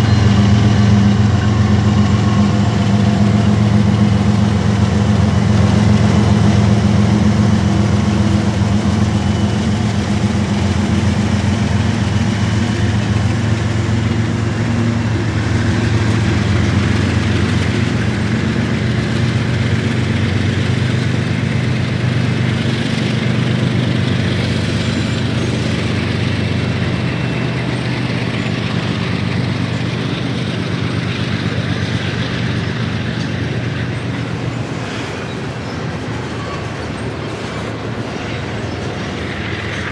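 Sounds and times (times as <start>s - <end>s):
diesel locomotive engine drone: 0.0s - 39.9s.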